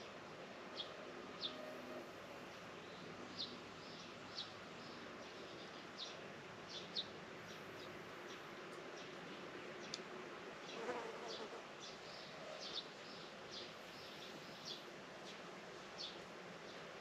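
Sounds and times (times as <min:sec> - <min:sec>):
soft steady hiss: 0:00.0 - 0:17.0.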